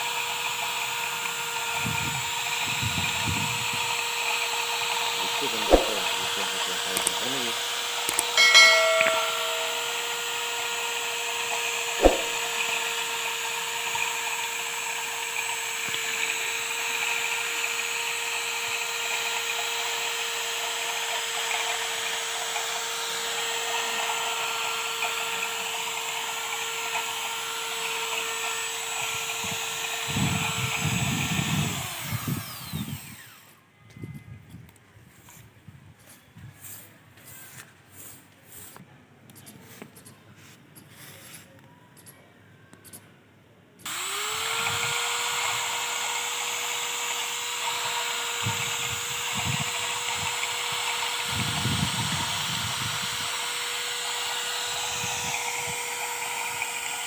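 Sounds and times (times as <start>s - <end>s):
electric drill whining: 0.0s - 34.2s, 43.8s - 57.0s.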